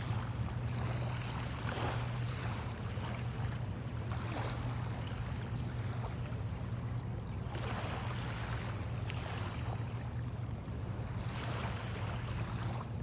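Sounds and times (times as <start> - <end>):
small waves washing on shore: 0.0 - 6.6, 7.4 - 10.2, 11.0 - 13.0.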